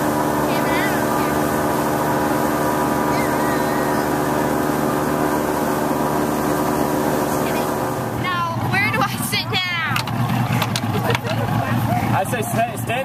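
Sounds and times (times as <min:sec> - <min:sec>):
boat engine running slowly: 0:00.0 - 0:13.0
wind: 0:00.0 - 0:13.0.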